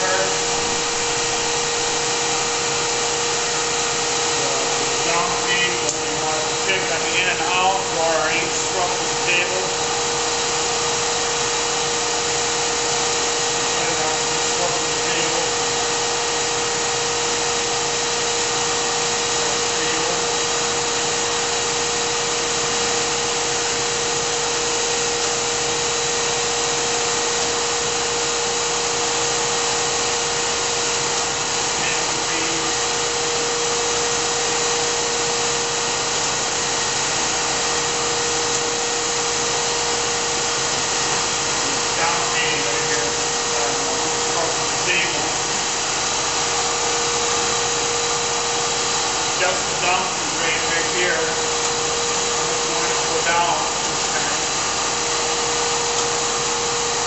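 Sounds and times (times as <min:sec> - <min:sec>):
surface grinder whirring: 0:00.0 - 0:57.0.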